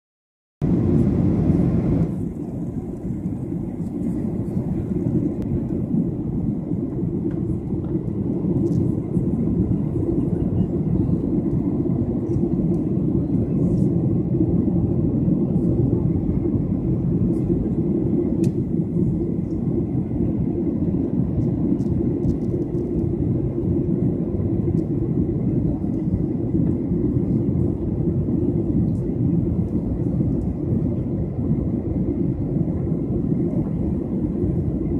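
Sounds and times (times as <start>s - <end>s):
jet cabin engine rumble: 0.6s - 34.9s.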